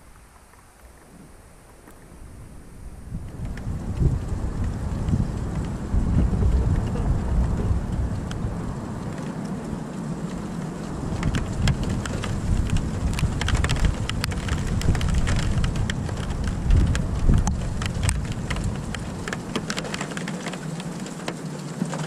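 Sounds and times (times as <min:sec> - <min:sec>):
rain falling: 0:00.0 - 0:22.0
low thunder rumble: 0:00.9 - 0:19.8
raindrops ticking sharply: 0:02.9 - 0:22.0.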